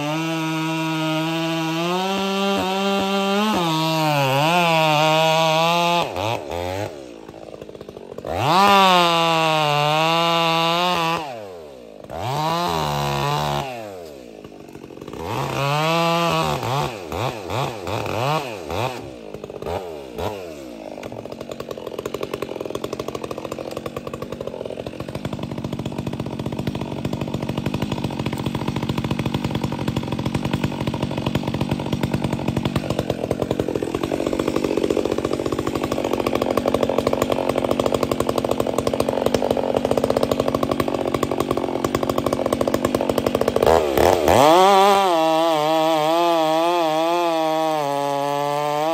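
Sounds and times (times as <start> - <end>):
chainsaw cutting wood: 0.0 - 48.9
chainsaw revving: 0.0 - 48.9.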